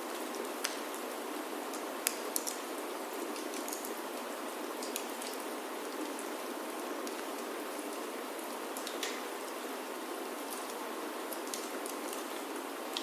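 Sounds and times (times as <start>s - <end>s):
rain falling on a roof: 0.0s - 13.0s
wood fire crackling: 0.1s - 1.0s, 1.7s - 9.7s, 10.3s - 13.0s.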